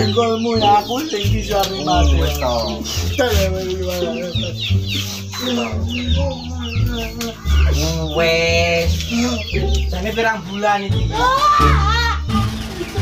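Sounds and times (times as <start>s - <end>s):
chickens clucking: 0.0s - 13.0s
music with low bass line: 0.0s - 13.0s.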